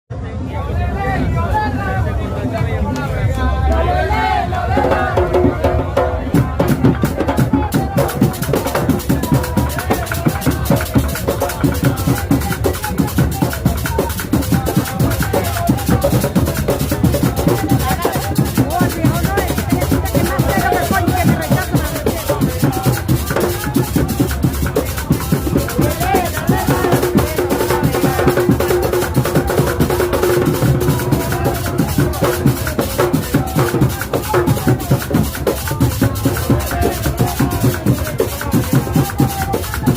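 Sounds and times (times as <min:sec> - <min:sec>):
voices: 0:00.1 - 0:39.9
drum group playing fast beat: 0:04.0 - 0:39.9.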